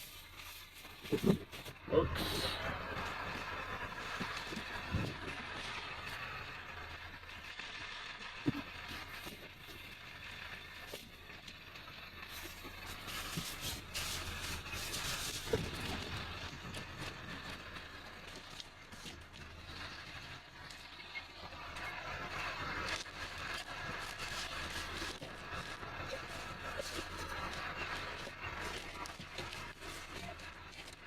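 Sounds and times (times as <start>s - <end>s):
vehicle running with low hum: 0.0s - 31.0s.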